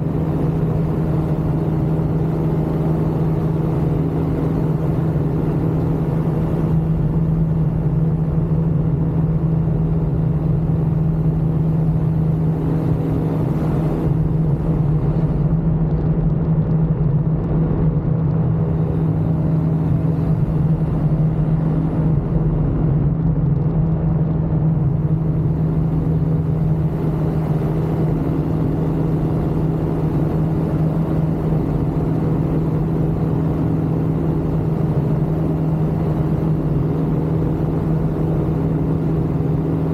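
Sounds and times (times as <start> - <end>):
ultralight aircraft engine drone: 0.0 - 39.9.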